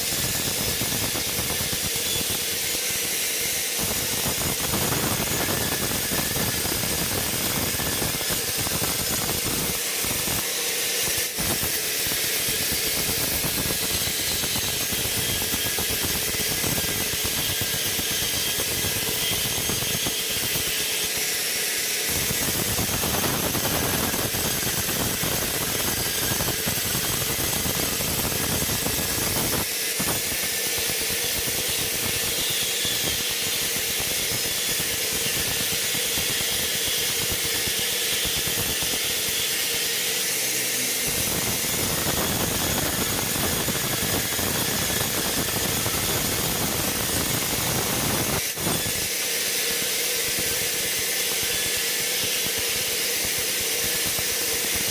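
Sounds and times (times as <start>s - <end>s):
sawmill machinery hissing: 0.0s - 54.9s.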